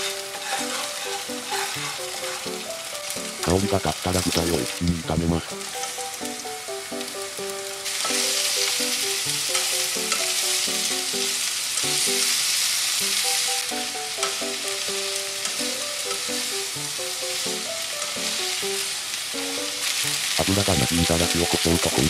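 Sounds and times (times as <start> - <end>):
spatula stirring in pan: 0.0 - 3.5, 7.8 - 22.0
food sizzling in frying pan: 0.0 - 22.0
light background music: 0.0 - 22.0.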